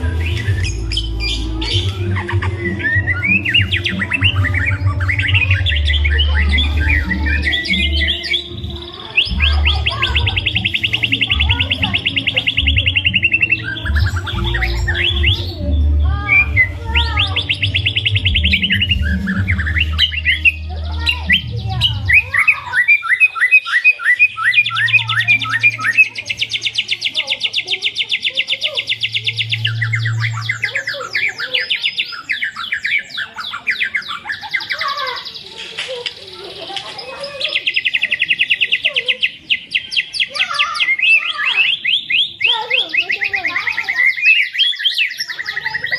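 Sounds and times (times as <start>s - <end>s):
bird singing trills and whistles: 0.0s - 45.9s.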